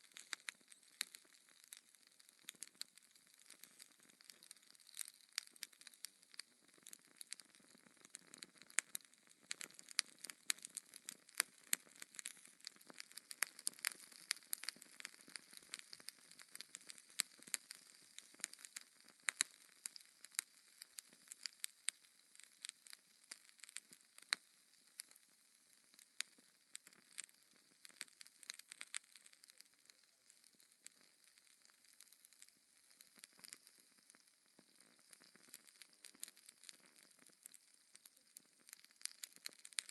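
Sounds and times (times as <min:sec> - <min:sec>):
burning logs crackling: 0:00.0 - 0:39.9.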